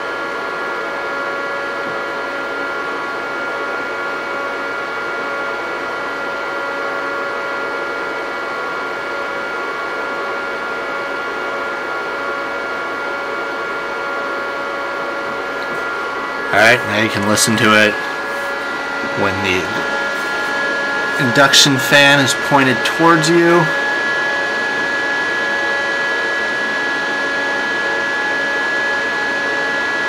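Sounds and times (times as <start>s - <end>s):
cooling fans whining: 0.0s - 30.0s.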